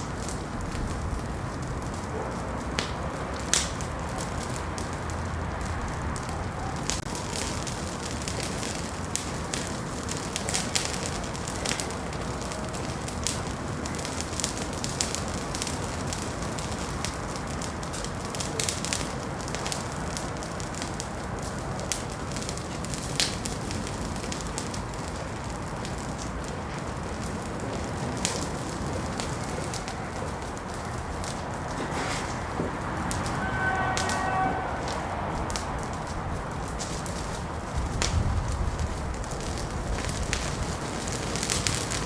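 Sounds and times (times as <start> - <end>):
fire crackling and popping: 0.0 - 42.0
flames rushing: 0.0 - 42.0.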